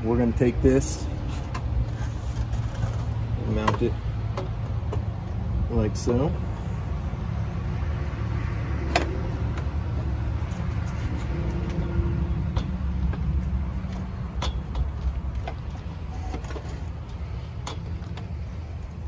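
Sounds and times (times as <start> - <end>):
low rumble: 0.6 - 16.1.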